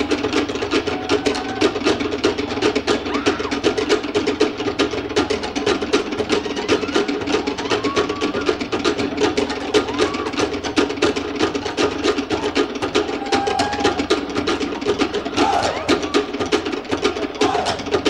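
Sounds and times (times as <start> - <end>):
fuller drum sound: 0.0 - 18.0
wooden slit drums rattling: 0.0 - 18.0.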